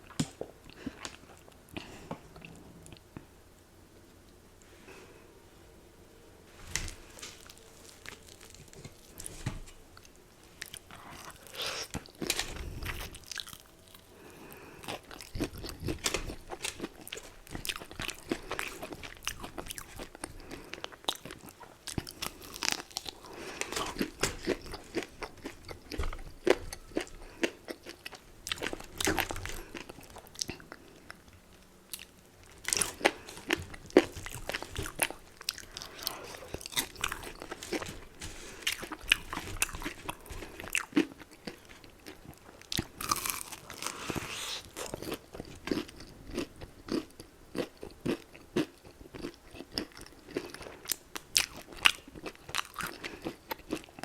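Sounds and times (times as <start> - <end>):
chewing crunchy fried chicken: 7.0 - 54.0.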